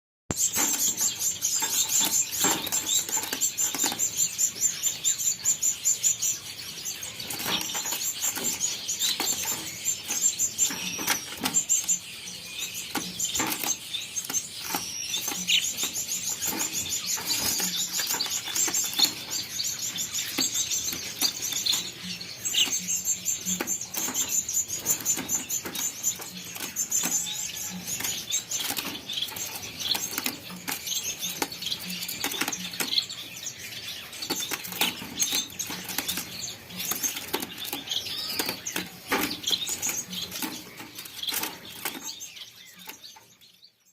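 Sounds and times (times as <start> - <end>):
finches chirping: 0.3 - 43.9.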